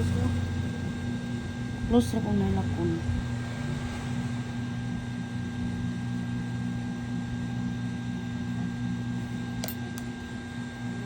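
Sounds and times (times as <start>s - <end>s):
mechanical hum with high whine: 0.0s - 11.0s.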